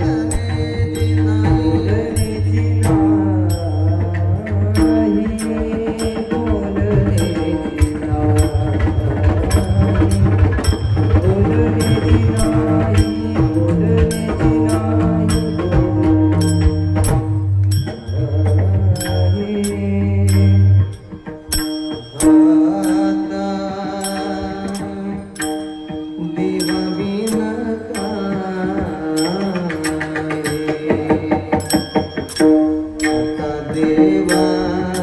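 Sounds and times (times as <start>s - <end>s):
hand drum: 0.0s - 35.0s
metallic cymbal strikes: 0.0s - 35.0s
sustained melody instrument: 0.0s - 35.0s.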